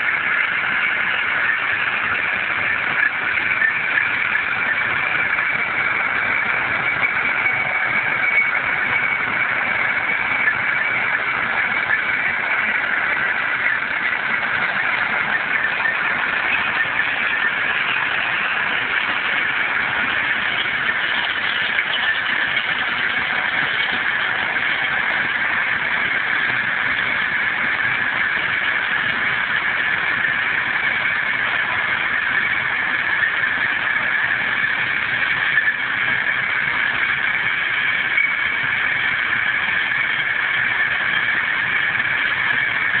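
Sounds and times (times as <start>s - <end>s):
tractor and corn picker running: 0.0s - 43.0s.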